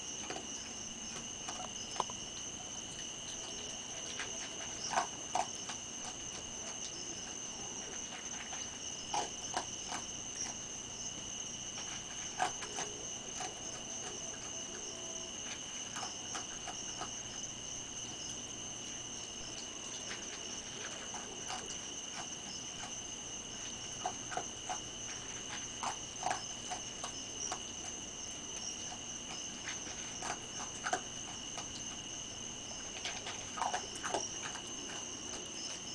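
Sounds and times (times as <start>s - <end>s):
high insect trill: 0.0s - 35.9s
raccoon crunching dry food: 0.0s - 35.9s.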